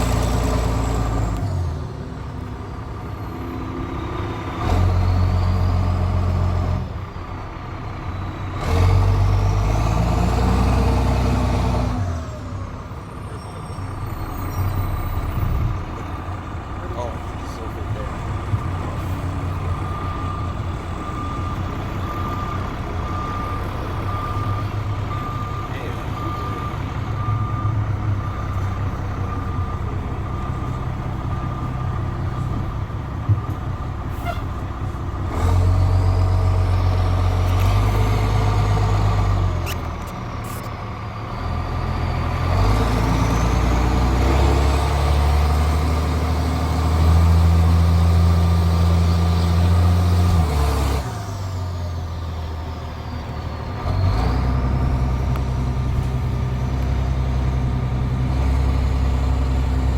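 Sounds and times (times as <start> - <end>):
diesel bus engine pulling hard: 0.0 - 59.9.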